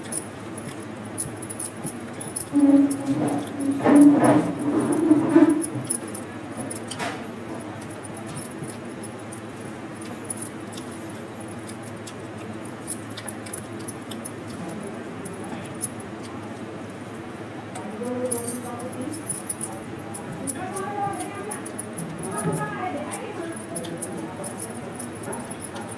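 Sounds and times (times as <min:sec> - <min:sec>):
light metallic clinks: 0:00.0 - 0:16.4, 0:17.7 - 0:25.9
steady low hum: 0:00.0 - 0:25.9.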